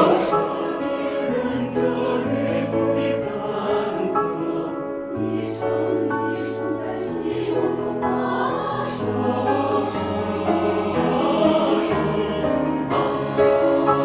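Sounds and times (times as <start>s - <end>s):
mixed choir singing: 0.0s - 14.0s
piano accompaniment: 0.0s - 14.0s.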